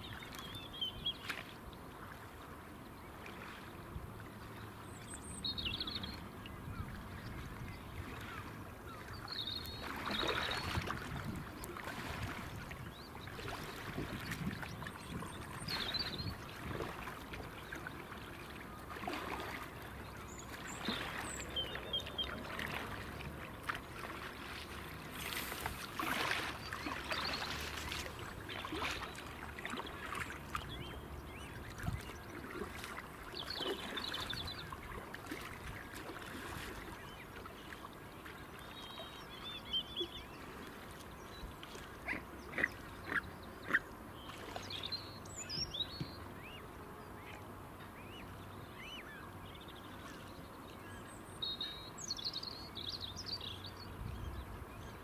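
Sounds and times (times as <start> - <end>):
water splashing and lapping: 0.0 - 46.6.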